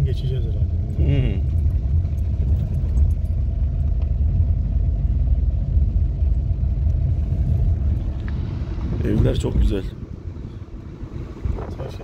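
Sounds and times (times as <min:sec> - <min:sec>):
car rumbling on gravel road: 0:00.0 - 0:12.0.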